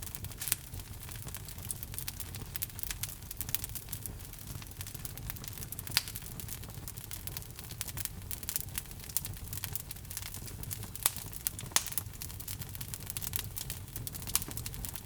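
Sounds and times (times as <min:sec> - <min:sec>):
log fire crackling: 0:00.0 - 0:15.0
low rumble of flames: 0:00.0 - 0:15.0.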